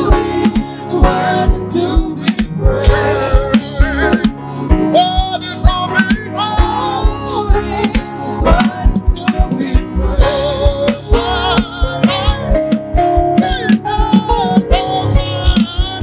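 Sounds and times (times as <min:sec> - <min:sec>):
band with drums and guitar: 0:00.0 - 0:16.0
person singing: 0:00.0 - 0:16.0.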